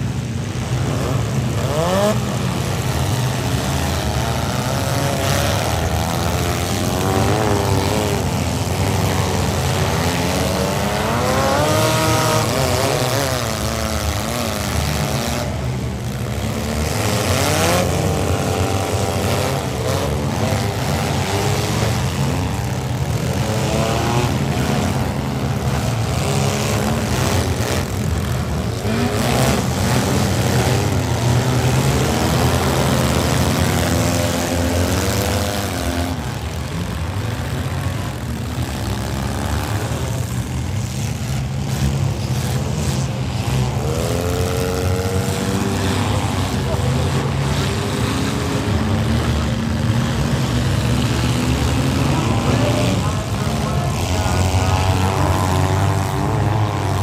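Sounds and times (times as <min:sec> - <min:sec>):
minivan engines revving hard: 0:00.0 - 0:57.0.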